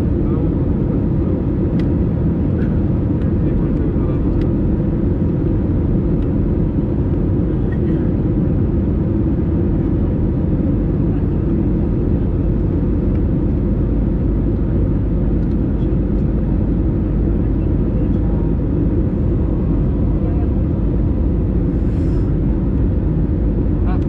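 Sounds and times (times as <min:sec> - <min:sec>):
deep rumble of jet engines: 0:00.0 - 0:24.0.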